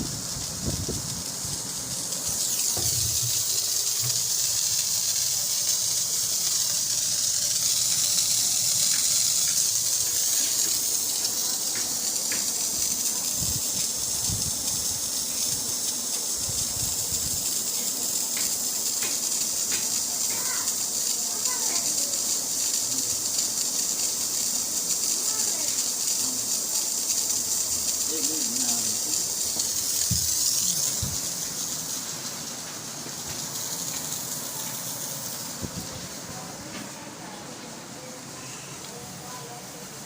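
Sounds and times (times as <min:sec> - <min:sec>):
pressurised gas hissing: 0:00.0 - 0:40.0.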